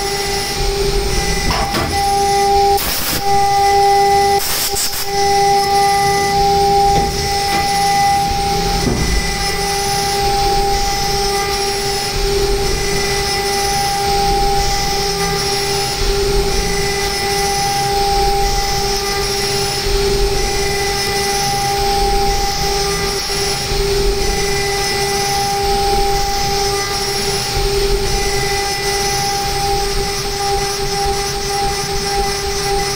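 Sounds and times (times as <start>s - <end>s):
mill spindle high whine: 0.0s - 32.9s
rushing noise of metal cutting: 0.0s - 32.9s.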